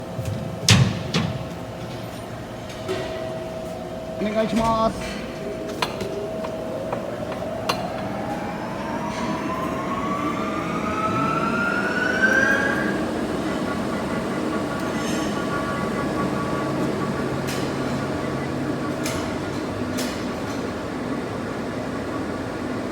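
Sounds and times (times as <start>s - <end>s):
lathe drive whining: 1.6s - 22.9s.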